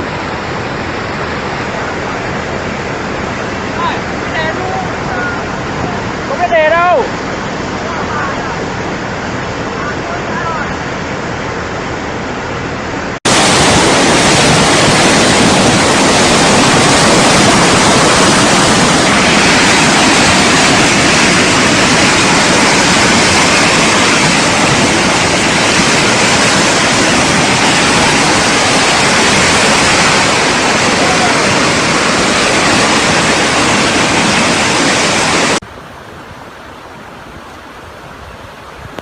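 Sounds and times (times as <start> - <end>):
rushing floodwater: 0.0 - 39.0.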